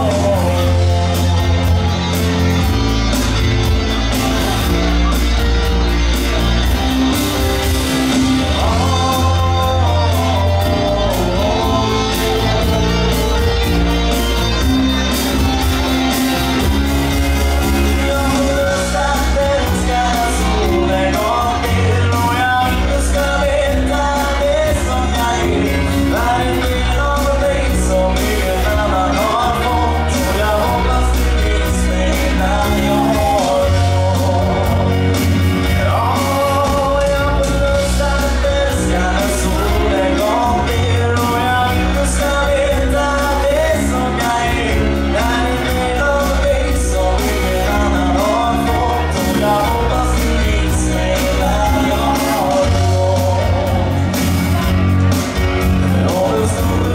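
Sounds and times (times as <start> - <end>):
man singing into a microphone: 0.0 - 2.6, 4.0 - 15.5, 16.8 - 56.9
drums: 0.0 - 56.9
electric bass: 0.0 - 56.9
keyboard: 0.0 - 56.9.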